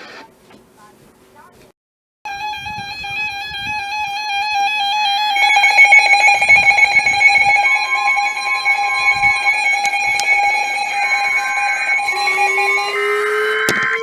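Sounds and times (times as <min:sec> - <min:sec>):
steady high tone: 0:02.3 - 0:14.0
weather radio alert alarm: 0:02.3 - 0:14.0.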